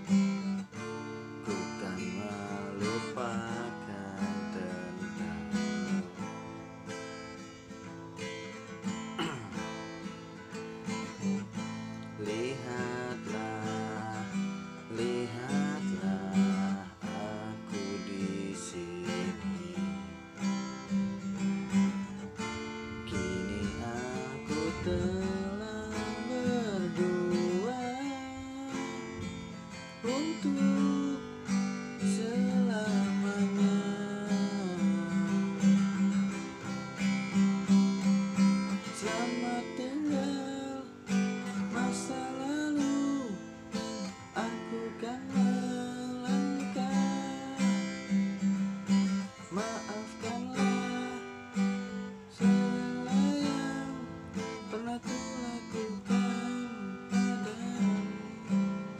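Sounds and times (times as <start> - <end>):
acoustic guitar strummed and picked: 0.0 - 58.9
sliding guitar melody: 0.0 - 58.9.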